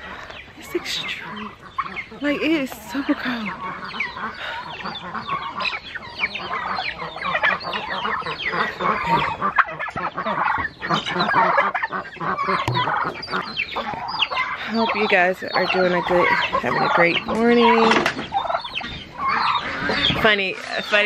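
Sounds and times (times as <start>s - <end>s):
birds chirping in chorus: 0.0s - 21.0s.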